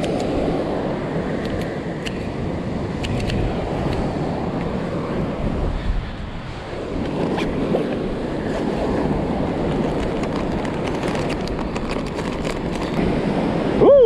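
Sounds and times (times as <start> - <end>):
surf breaking on beach: 0.0 - 14.0
wind rushing over microphone: 0.0 - 14.0.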